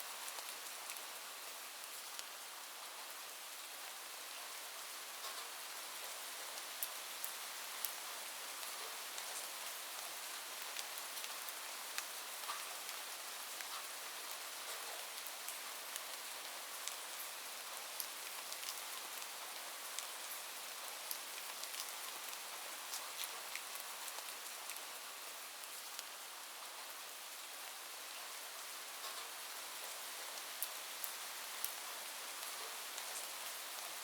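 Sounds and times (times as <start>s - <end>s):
light rain falling: 0.0s - 34.0s.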